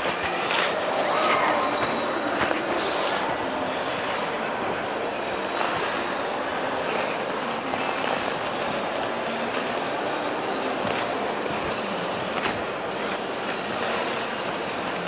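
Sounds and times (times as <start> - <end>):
ice skates scraping on ice: 0.0 - 15.0.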